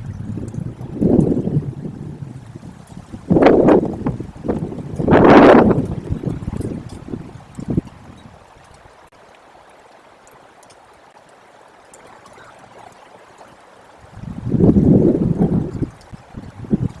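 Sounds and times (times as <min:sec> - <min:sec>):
wind buffeting microphone: 0:00.0 - 0:09.1, 0:11.9 - 0:17.0.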